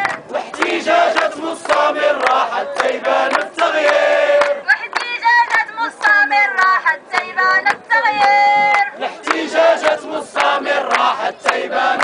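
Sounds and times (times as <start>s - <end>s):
woman chanting through a megaphone: 0.0s - 12.0s.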